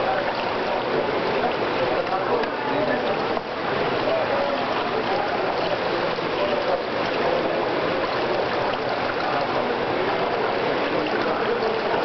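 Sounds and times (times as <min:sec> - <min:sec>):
water lapping in a pool: 0:00.0 - 0:12.0.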